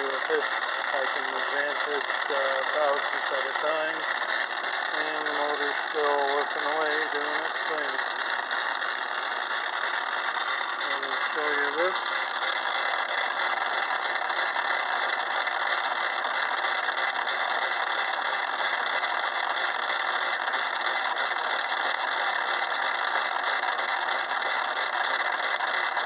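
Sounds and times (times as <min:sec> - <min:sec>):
metal lathe milling steel: 0:00.0 - 0:26.0.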